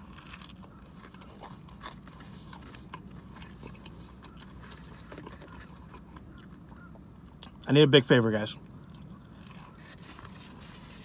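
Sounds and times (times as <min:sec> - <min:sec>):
person chewing food: 0:00.0 - 0:07.7, 0:08.6 - 0:11.0
low steady hum: 0:00.0 - 0:11.0.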